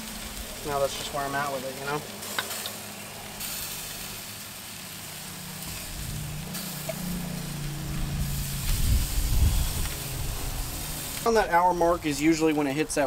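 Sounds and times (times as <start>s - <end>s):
chicken sizzling on a grill: 0.0s - 13.0s.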